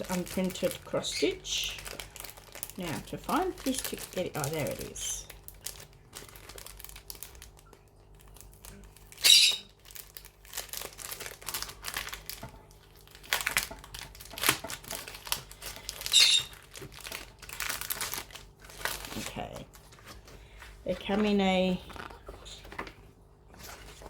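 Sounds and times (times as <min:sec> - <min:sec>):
packaging crinkling: 0:00.0 - 0:24.0.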